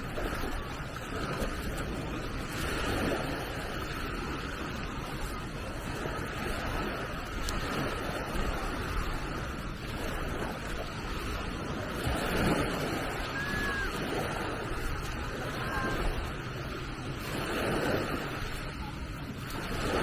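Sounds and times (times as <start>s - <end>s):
waves washing onto beach: 0.0s - 20.0s
wind buffeting microphone: 0.0s - 20.0s.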